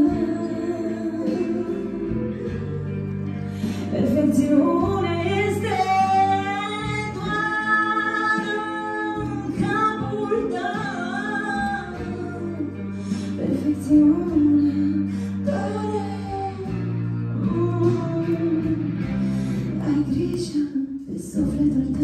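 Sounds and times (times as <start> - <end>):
woman singing into microphone: 0.0 - 22.0.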